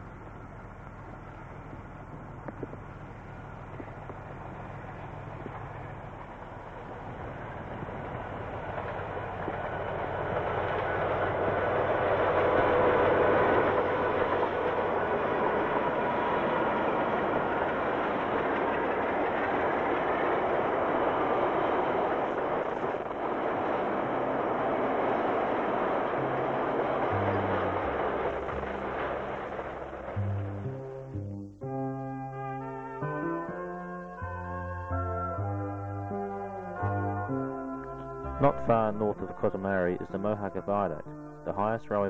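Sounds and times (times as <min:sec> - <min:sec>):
diesel locomotive passing: 0:00.0 - 0:42.0
train wagons rumbling: 0:00.0 - 0:42.0.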